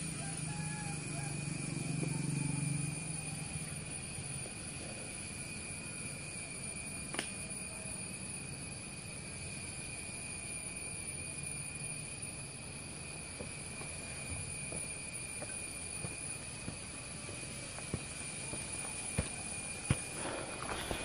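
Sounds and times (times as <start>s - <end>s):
forest insects chorus: 0.0s - 21.0s.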